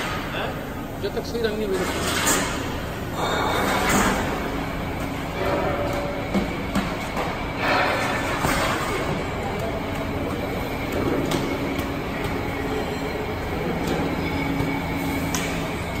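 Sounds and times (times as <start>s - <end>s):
continuous machine rumble: 0.0s - 16.0s.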